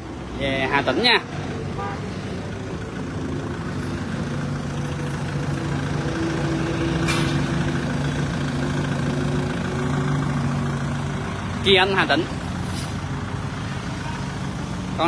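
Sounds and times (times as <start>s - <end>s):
tractor diesel engine idling: 1.5s - 15.0s.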